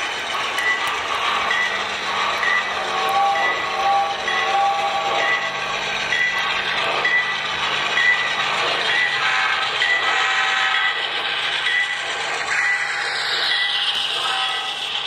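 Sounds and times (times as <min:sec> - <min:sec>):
model train rattling on track: 0:00.0 - 0:15.0
steady engine hum: 0:00.0 - 0:15.0
locomotive bell ringing: 0:00.6 - 0:11.0, 0:11.6 - 0:14.9.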